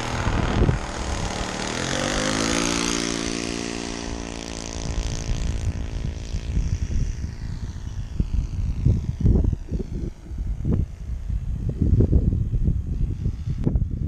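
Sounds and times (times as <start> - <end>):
model airplane engine running: 0.0 - 14.0
wind gusts on microphone: 0.0 - 14.0.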